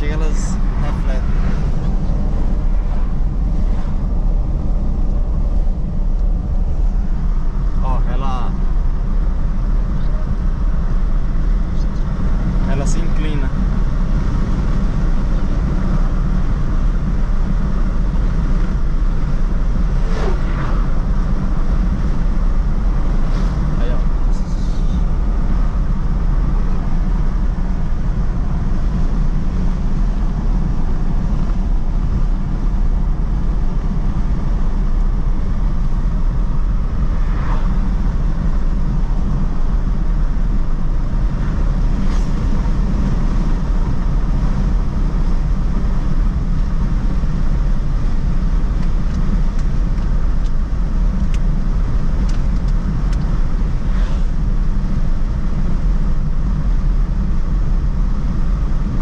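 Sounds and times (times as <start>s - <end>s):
vehicle road and wind noise: 0.0s - 59.0s.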